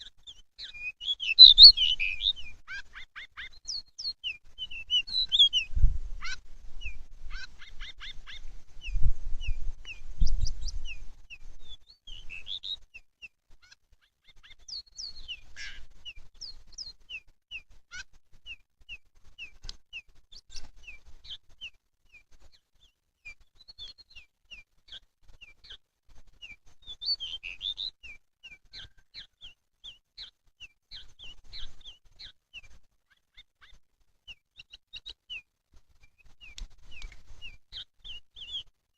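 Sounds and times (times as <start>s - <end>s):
bird calling and singing: 0.0s - 25.8s, 26.4s - 38.7s.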